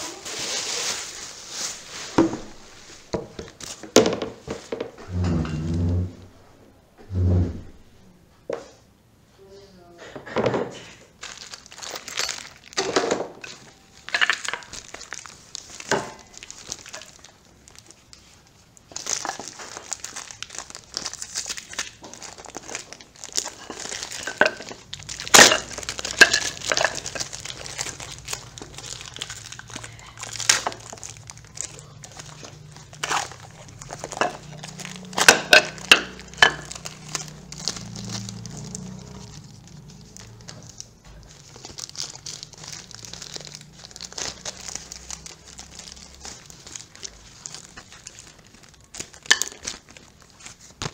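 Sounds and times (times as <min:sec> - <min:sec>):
plastic packaging crinkling: 0:00.0 - 0:06.4, 0:11.1 - 0:50.9.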